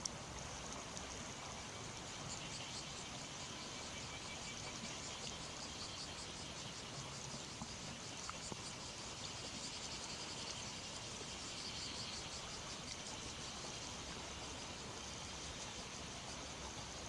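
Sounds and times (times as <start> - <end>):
insects chirring: 0.1 - 17.0.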